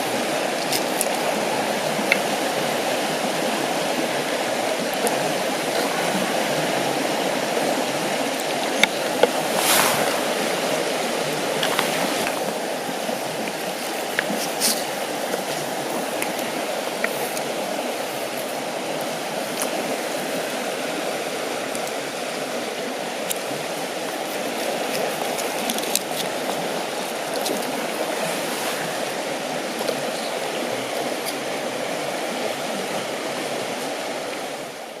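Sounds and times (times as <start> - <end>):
river water flowing over stones: 0.0 - 35.0.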